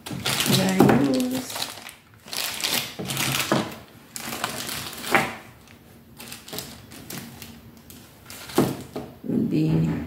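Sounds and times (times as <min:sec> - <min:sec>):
plastic wrapping rustling and crinkling: 0:00.0 - 0:09.2.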